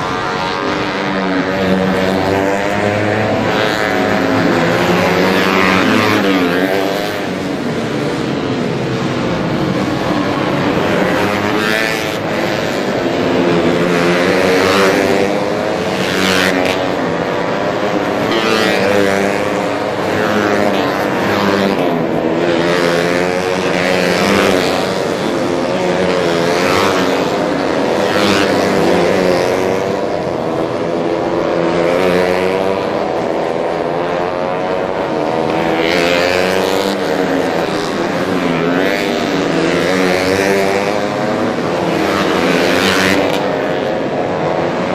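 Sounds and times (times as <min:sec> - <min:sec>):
racing motorcycle engines revving: 0:00.0 - 0:44.9.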